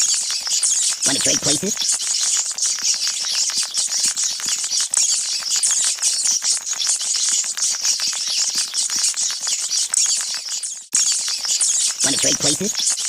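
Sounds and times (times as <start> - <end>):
rats squeaking and chittering: 0.0 - 13.0
rapid scratchy clicks: 0.9 - 13.0.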